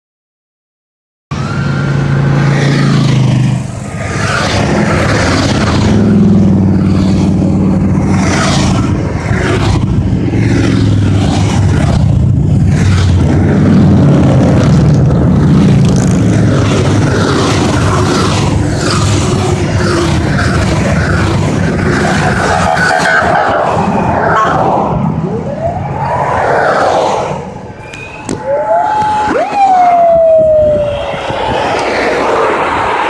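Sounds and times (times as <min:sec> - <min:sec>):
motorcycle engines: 0:01.3 - 0:33.0.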